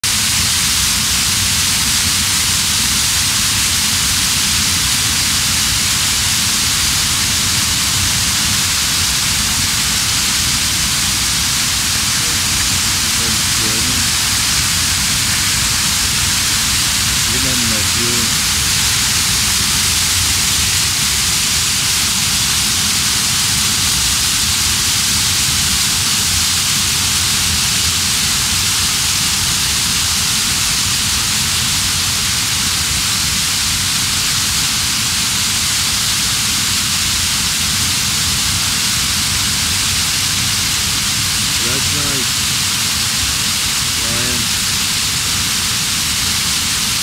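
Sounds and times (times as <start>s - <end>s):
waterfall pouring onto rocks: 0.0s - 47.0s.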